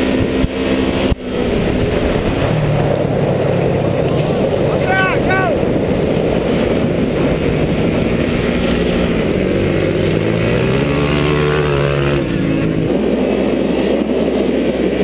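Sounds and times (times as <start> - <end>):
vehicle engine running: 0.0 - 15.0
wind on microphone: 0.0 - 15.0.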